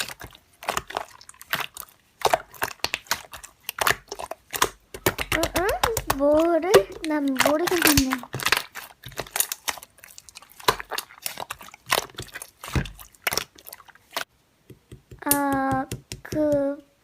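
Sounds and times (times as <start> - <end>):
slime squishing with sticky pops: 0.0 - 16.8.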